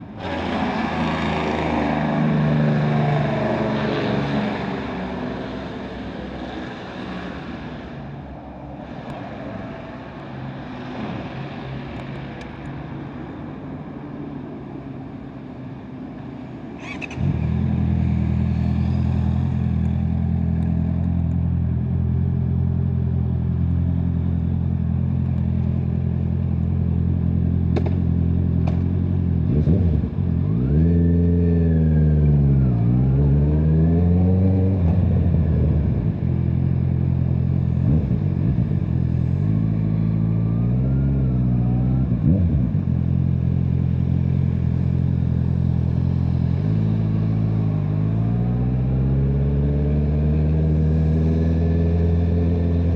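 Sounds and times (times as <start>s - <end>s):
motorcycle engine idling and revving: 0.0s - 52.9s.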